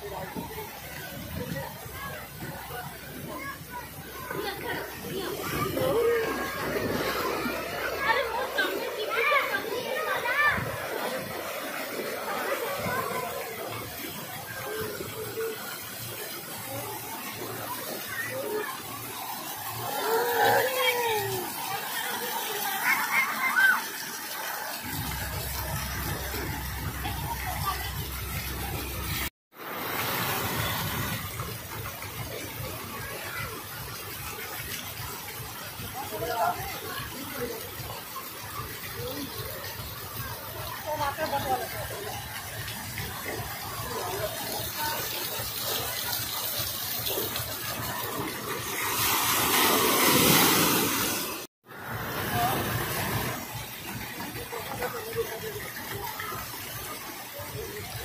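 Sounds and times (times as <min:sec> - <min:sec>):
water splashing into pool: 0:00.0 - 0:58.0.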